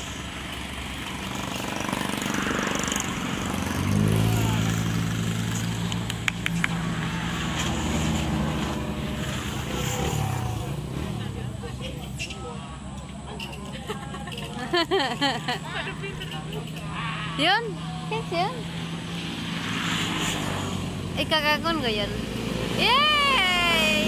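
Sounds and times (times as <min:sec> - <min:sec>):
roadside traffic noise: 0:00.0 - 0:24.0
vehicle engine humming: 0:00.0 - 0:24.0.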